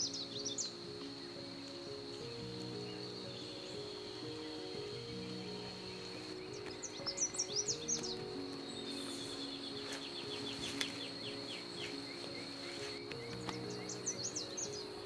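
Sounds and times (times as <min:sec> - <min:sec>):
forest ambience: 0:00.0 - 0:15.0
high insect drone: 0:00.0 - 0:15.0
soft background music: 0:00.0 - 0:15.0.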